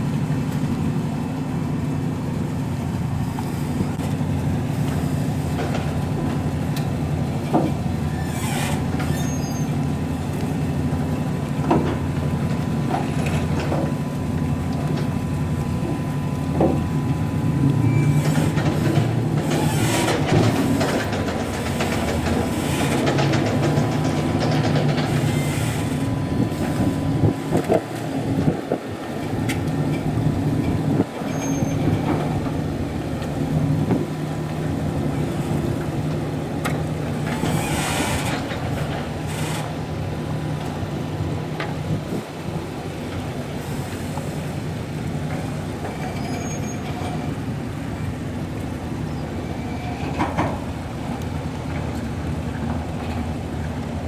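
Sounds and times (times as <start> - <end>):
ferry diesel engines droning: 0.0 - 54.0.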